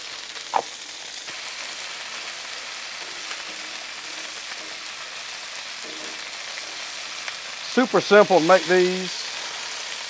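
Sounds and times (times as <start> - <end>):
chicken wings sizzling on griddle: 0.0 - 10.0.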